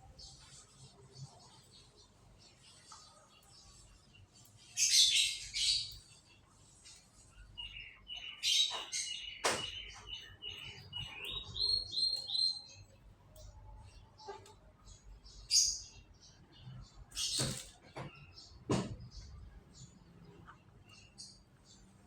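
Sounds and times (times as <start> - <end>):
canary singing: 0.0 - 21.9.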